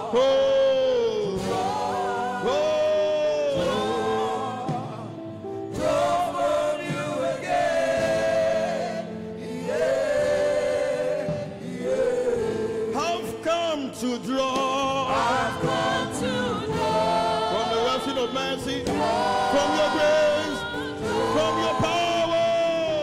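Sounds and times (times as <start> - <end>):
voices singing gospel song: 0.0 - 23.0.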